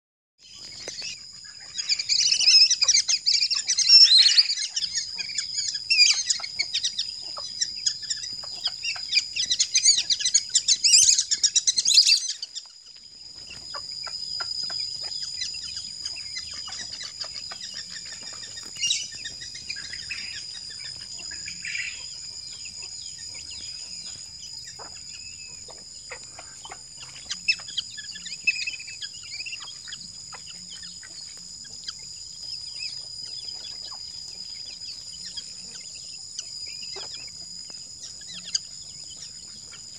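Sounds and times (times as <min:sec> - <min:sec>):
small birds chirping: 0:00.4 - 0:39.9.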